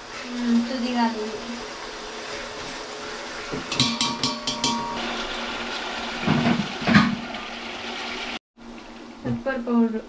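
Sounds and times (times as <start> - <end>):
chicken sizzling in pot: 0.0 - 10.0.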